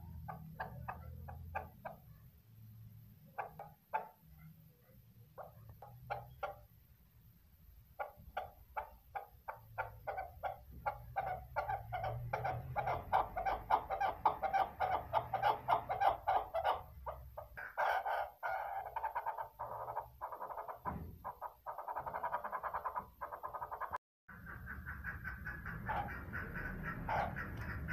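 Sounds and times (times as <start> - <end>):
partridge clucking calls: 0.0 - 2.2, 3.2 - 4.5, 5.4 - 6.8, 8.0 - 27.9.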